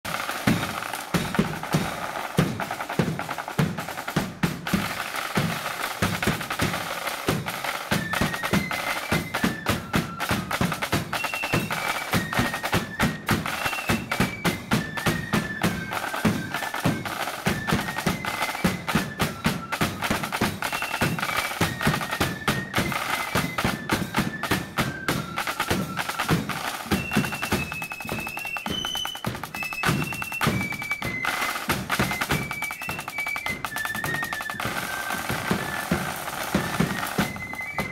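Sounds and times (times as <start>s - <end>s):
snare drum rolls: 0.0s - 37.9s
flutes playing high melody: 0.1s - 37.9s.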